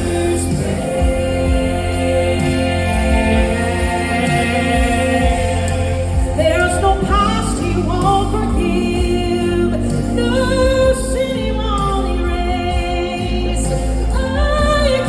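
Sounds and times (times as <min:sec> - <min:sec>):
gospel singing: 0:00.0 - 0:15.0
instrumental accompaniment with bass: 0:00.0 - 0:15.0.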